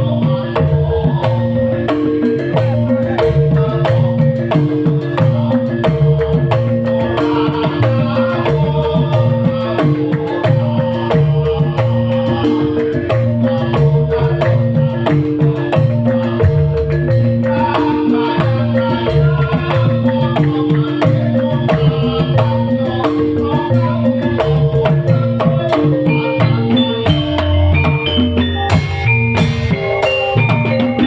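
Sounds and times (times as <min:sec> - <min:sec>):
fast hand drum rhythm: 0:00.0 - 0:31.0
live band music: 0:00.0 - 0:31.0.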